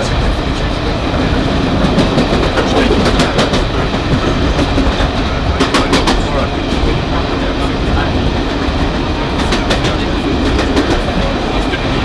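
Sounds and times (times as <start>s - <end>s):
train wheels rumbling on rails: 0.0s - 12.0s
wheels clicking over rail joints: 1.3s - 11.9s.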